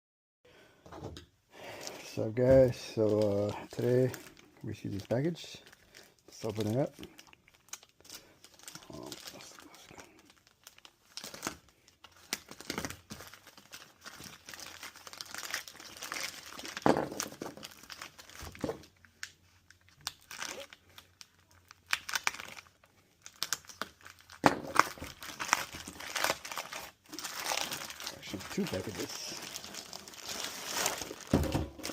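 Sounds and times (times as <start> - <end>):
packaging torn and crumpled: 1.8 - 31.9.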